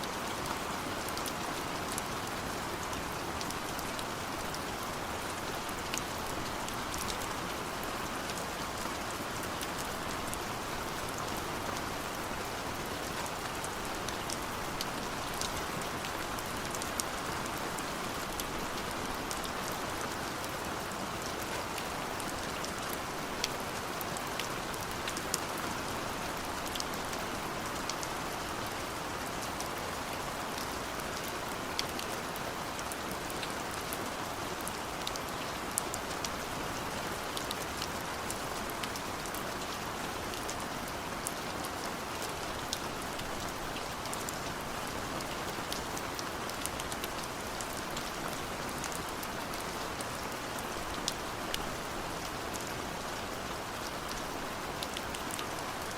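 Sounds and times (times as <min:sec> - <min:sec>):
raindrops ticking on a surface: 0:00.0 - 0:55.9
steady rain hissing: 0:00.0 - 0:55.9.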